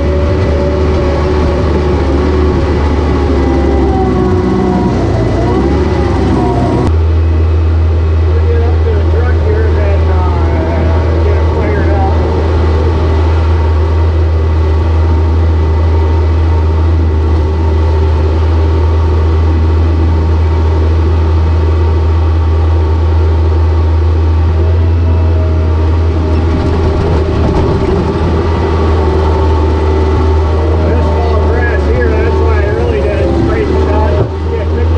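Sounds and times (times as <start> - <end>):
large vehicle engine droning: 0.0 - 34.9.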